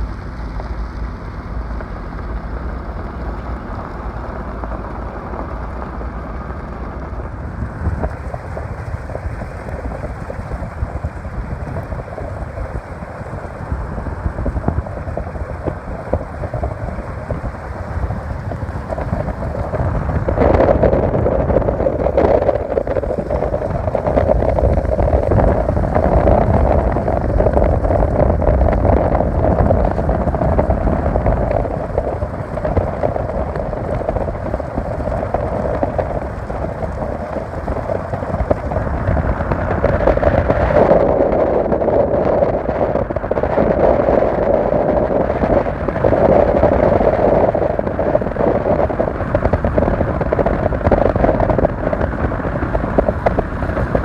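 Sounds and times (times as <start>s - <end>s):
low rumble: 0.0s - 54.0s
wind buffeting microphone: 0.0s - 54.0s.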